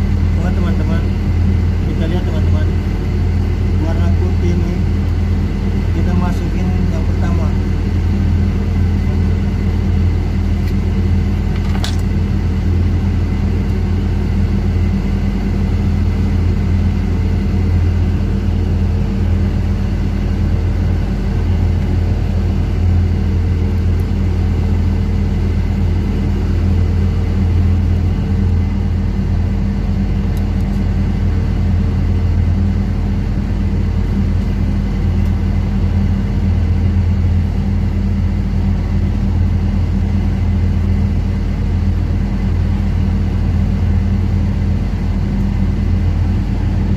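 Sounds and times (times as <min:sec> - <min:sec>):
boat machinery droning: 0:00.0 - 0:46.9.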